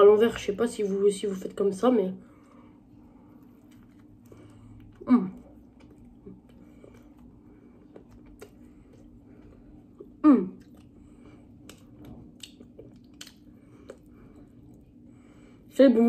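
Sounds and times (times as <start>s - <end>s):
person chewing wetly: 2.2s - 15.7s.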